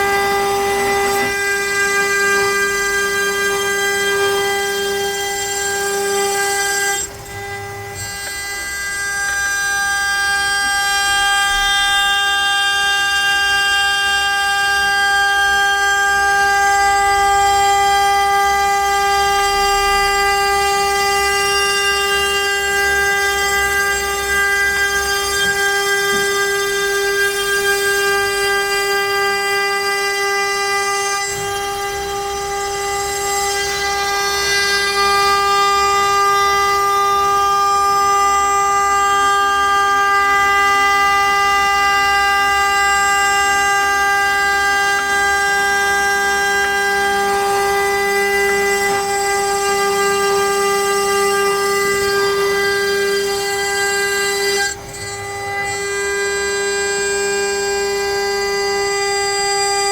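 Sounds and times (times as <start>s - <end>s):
cnc router spindle whine: 0.0s - 59.9s.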